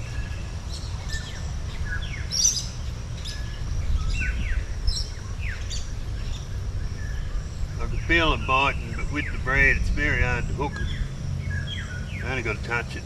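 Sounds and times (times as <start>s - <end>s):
birds chirping and whistling: 0.0s - 13.0s
steady low rumble: 0.0s - 13.0s.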